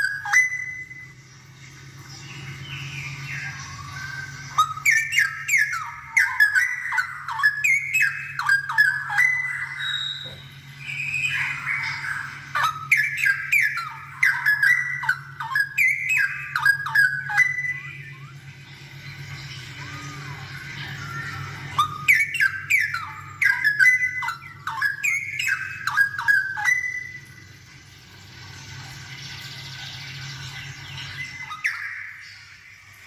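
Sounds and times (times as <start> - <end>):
bird warbling: 0.0 - 33.0.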